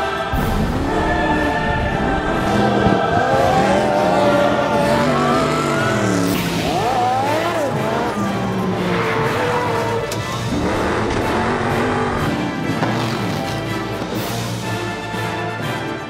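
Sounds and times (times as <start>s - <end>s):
racing engines revving: 0.3s - 14.6s.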